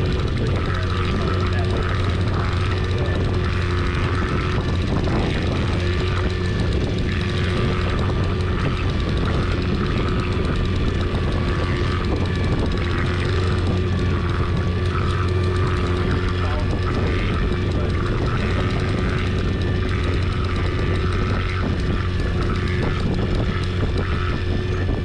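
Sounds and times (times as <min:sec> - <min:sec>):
boat motor humming: 0:00.0 - 0:25.0.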